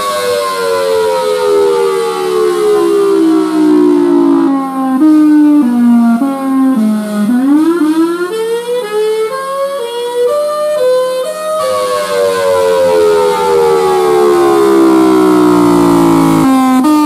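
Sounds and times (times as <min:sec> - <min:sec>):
rotating warning siren wailing: 0:00.0 - 0:17.0.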